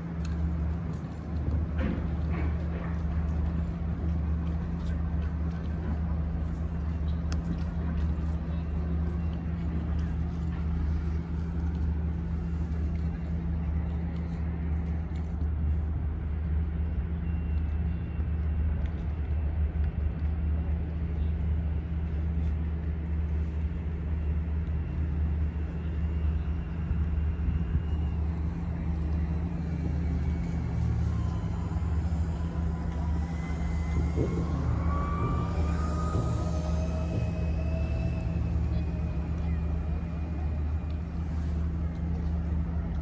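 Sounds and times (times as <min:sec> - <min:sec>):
low motor rumble: 0:00.0 - 0:43.0.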